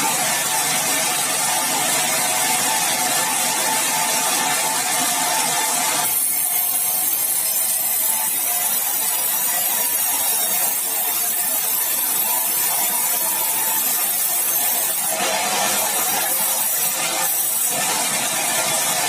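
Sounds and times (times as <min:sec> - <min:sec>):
sawmill sawing log: 0:00.0 - 0:19.0.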